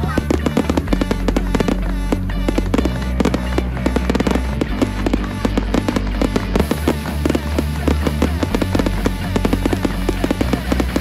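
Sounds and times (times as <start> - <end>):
fireworks bursting and crackling: 0.0 - 11.0
music with beat and bass: 0.0 - 11.0.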